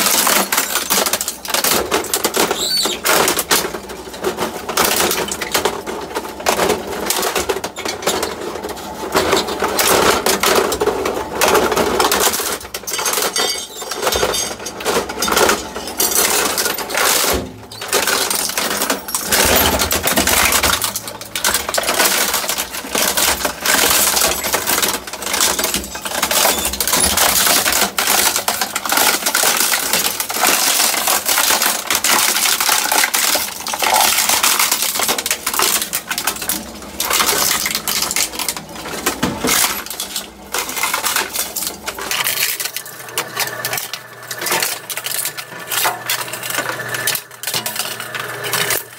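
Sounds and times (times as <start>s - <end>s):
shredder chewing up plastic: 0.0s - 48.9s.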